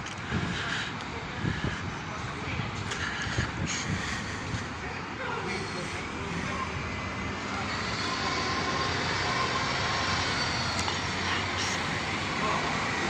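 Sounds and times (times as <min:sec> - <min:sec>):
engine rumble and hiss: 0:00.0 - 0:13.0.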